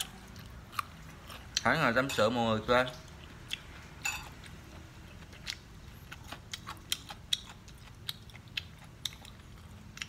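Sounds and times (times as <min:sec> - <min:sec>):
crunchy food being chewed: 0:00.0 - 0:01.8, 0:02.9 - 0:10.0.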